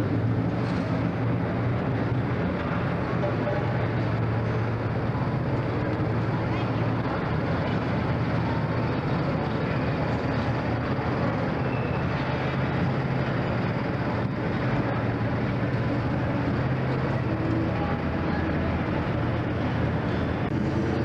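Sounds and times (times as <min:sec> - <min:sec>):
engines droning: 0:00.0 - 0:21.0.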